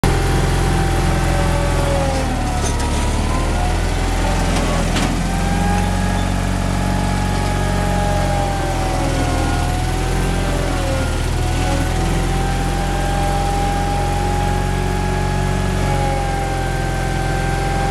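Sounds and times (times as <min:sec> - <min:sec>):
skid steer engine running: 0:00.0 - 0:17.9.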